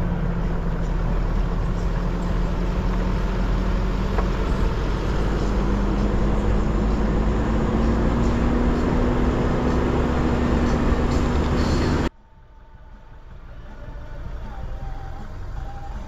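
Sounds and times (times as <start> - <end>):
pickup engine hum: 0.0 - 16.0.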